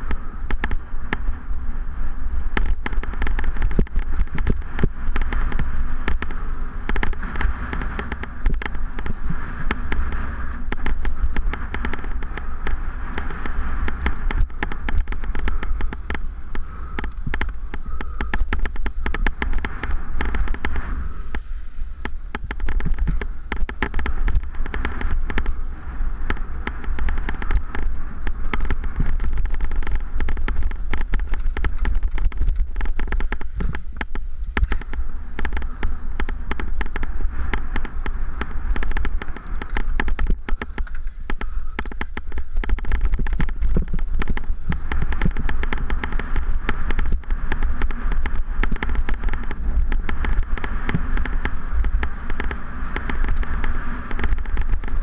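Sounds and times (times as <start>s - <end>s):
bike rattling over dirt trail: 0.0s - 55.0s
wind buffeting microphone: 0.0s - 55.0s.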